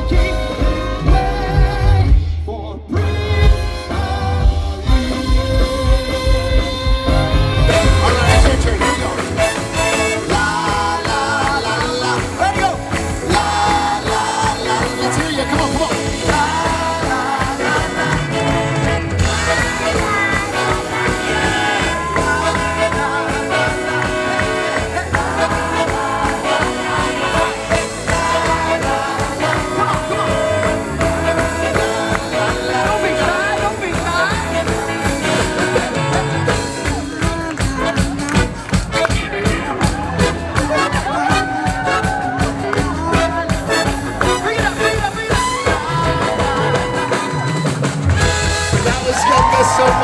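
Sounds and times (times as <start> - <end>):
live swing band music: 0.0 - 50.0.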